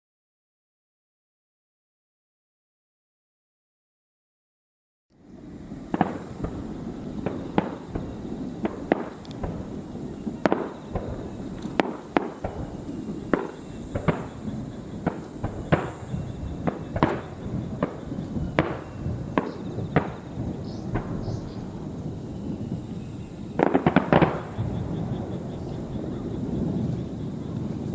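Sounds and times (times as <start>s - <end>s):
fireworks bursting: 5.2s - 27.9s
low rumble of bursts: 5.2s - 27.9s.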